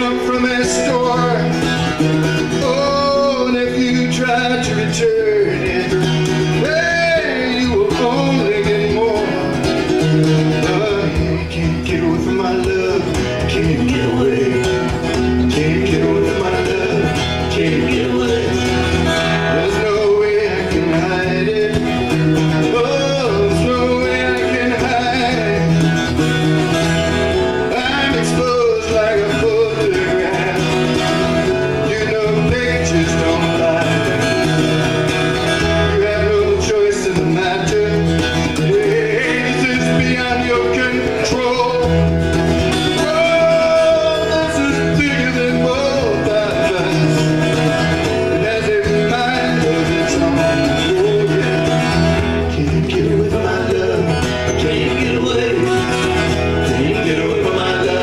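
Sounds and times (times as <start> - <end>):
acoustic guitars strummed and picked: 0.0 - 58.0
man singing: 0.0 - 58.0.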